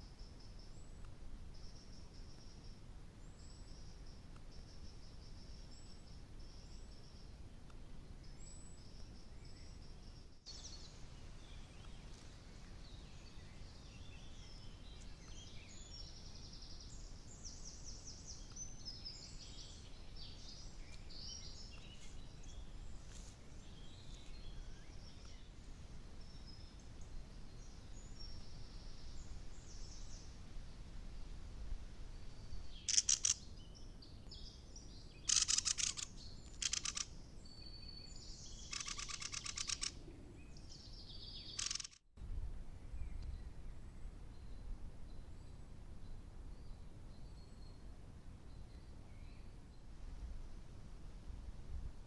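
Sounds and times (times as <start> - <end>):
small birds singing: 0.0 - 30.9, 32.1 - 42.0, 42.8 - 50.0
low background noise: 0.0 - 52.0.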